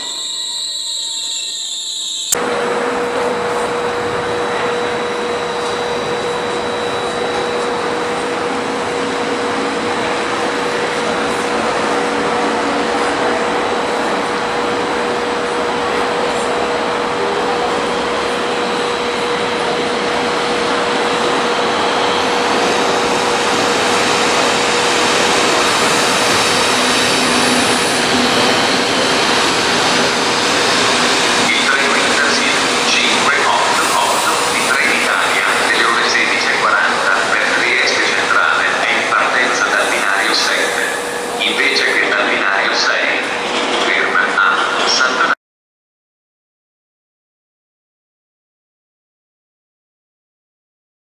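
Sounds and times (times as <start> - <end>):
diesel railcar rushing noise: 2.3 - 45.4.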